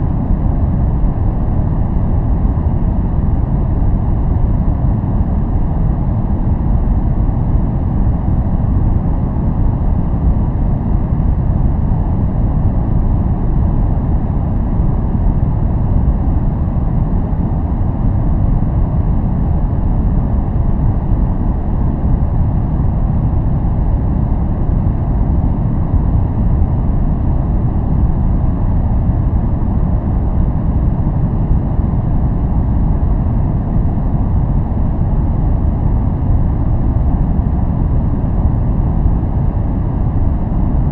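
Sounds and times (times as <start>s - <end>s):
deep rumbling white noise: 0.0s - 40.9s.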